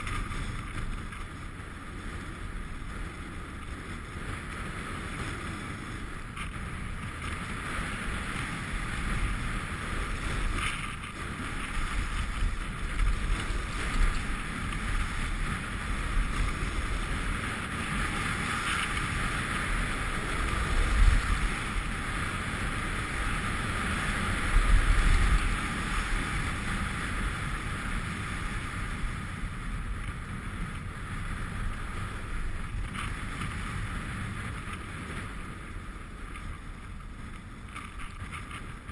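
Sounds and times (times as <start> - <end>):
sliding over packed snow: 0.0 - 38.9
wind on microphone: 0.0 - 38.9.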